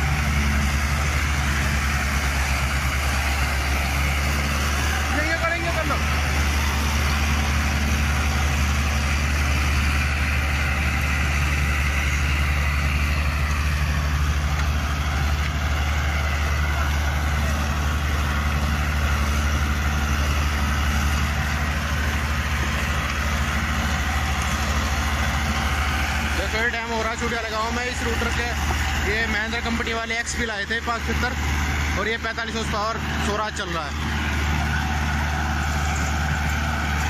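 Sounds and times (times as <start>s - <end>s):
rotary tiller churning soil: 0.0s - 37.0s
tractor diesel engine running: 0.0s - 37.0s.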